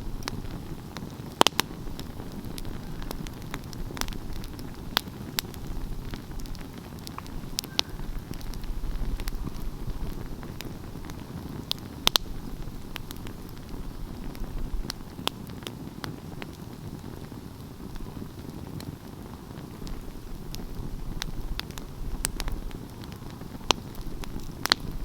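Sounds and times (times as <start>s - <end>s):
fire crackles and pops: 0.0s - 25.0s
wood fire rumbling: 0.0s - 25.0s.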